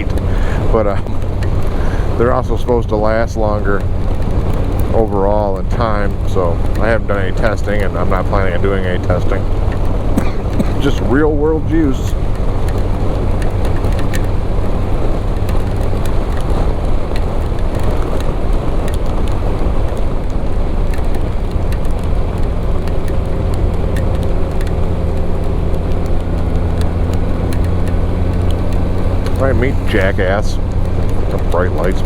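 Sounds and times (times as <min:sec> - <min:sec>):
motorcycle engine drone: 0:00.0 - 0:32.0
raindrops ticking: 0:00.0 - 0:32.0
road noise: 0:00.0 - 0:32.0
wind noise: 0:00.0 - 0:32.0.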